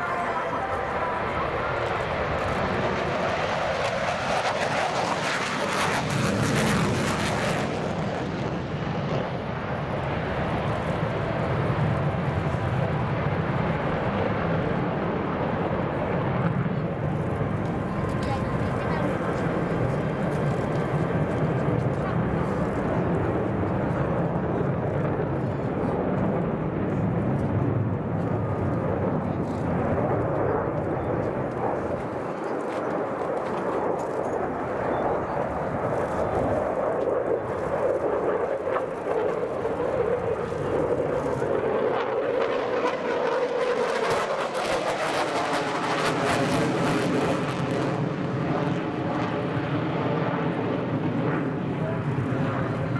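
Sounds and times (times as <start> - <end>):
fighter jet passing: 0.0 - 52.9.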